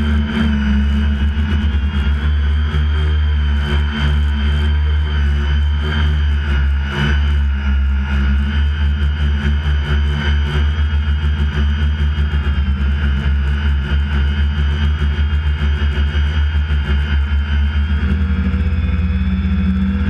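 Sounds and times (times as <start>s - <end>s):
motor running with low throb: 0.0s - 20.0s
steady whine: 0.0s - 20.0s.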